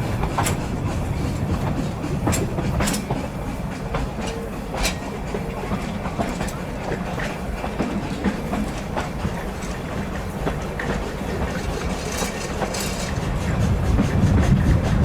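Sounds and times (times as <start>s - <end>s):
train carriages rumbling: 0.0s - 15.0s
train wheels clicking over rail joints: 0.0s - 15.0s.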